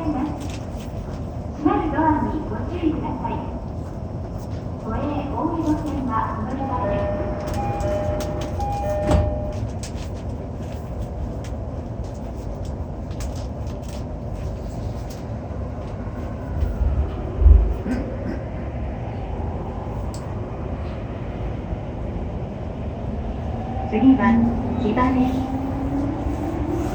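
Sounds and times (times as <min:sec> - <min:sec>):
train wheels rumbling on rail: 0:00.0 - 0:26.9.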